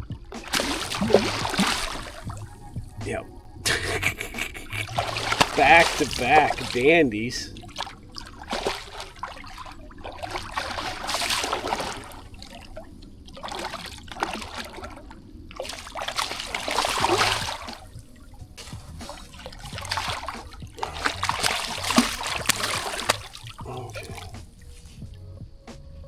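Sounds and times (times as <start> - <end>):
fish thrashing in water: 0.0 - 26.0.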